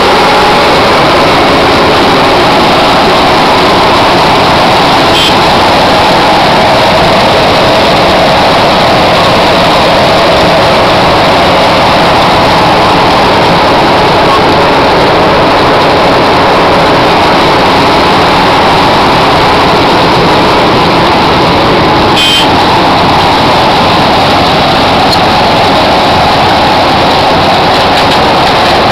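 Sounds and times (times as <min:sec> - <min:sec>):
milling machine working: 0:00.0 - 0:28.9.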